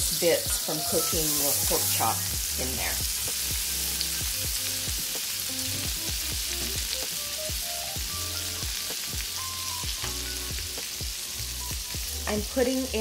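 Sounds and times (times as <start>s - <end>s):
butter sizzling in a skillet: 0.0s - 13.0s.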